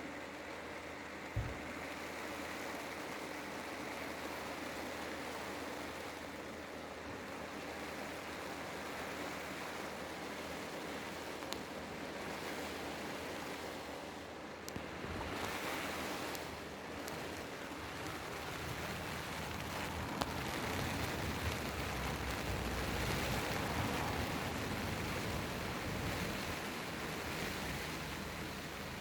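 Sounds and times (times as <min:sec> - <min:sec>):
rain and wind on a tent: 0:00.0 - 0:29.0.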